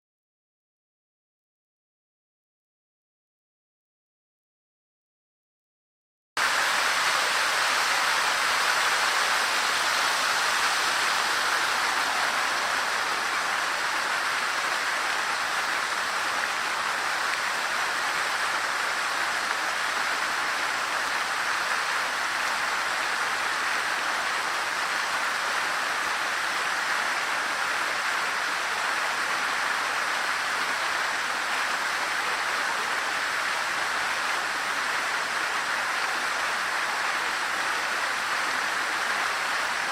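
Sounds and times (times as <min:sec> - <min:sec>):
fountain water splashing: 0:06.4 - 0:39.9.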